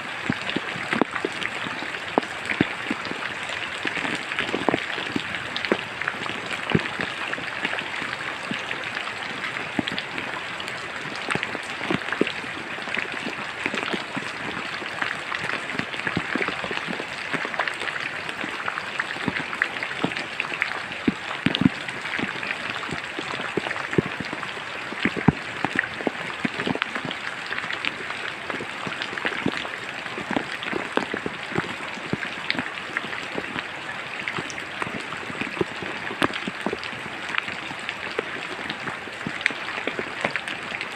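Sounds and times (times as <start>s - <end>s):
raindrops ticking on surfaces: 0.0s - 40.9s
steady rain hiss: 0.0s - 40.9s.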